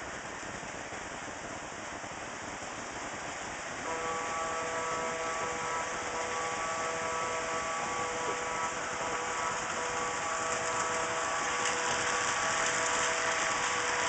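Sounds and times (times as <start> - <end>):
faint steady whine: 0.0 - 14.0
model trains running on rails: 0.0 - 14.0.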